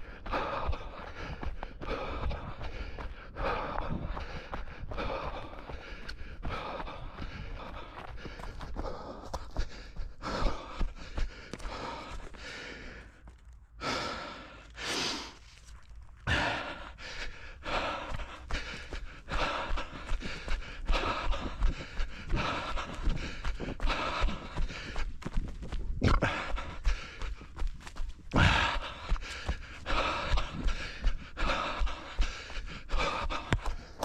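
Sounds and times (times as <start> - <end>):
runner panting: 0.0 - 15.5, 16.2 - 34.0.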